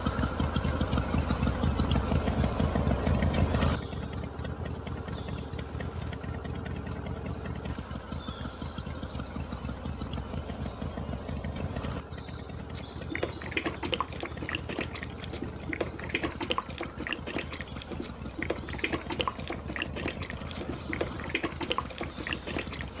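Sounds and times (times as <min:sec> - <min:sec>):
liquid splashing and gurgling: 0:00.0 - 0:23.0
small motor humming: 0:00.0 - 0:23.0.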